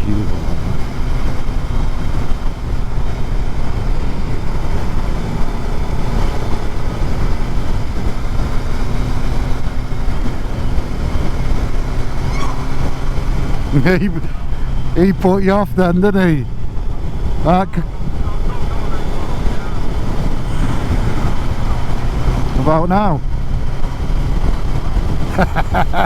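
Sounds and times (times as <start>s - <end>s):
wind noise on microphone: 0.0s - 15.0s, 16.5s - 22.6s
motorcycle engine running: 0.0s - 26.0s.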